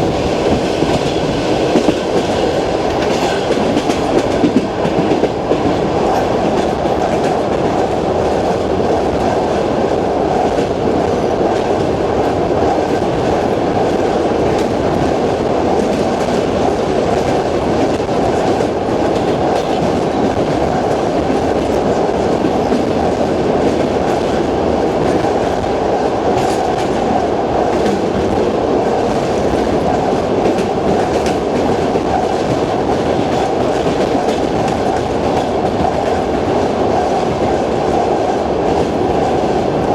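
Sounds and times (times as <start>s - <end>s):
train rumbling running noise: 0.0s - 39.9s.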